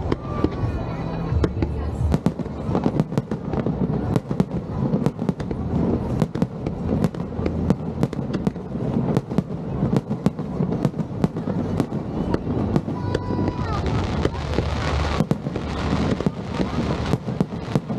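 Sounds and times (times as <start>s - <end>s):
continuous rumble: 0.0s - 17.9s
fireworks bursting: 0.0s - 17.9s.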